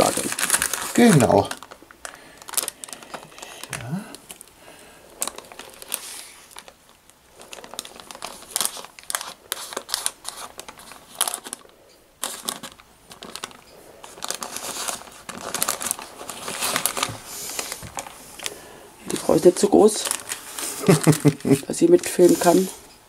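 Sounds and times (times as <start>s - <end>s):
baking paper crinkling: 0.0s - 22.9s.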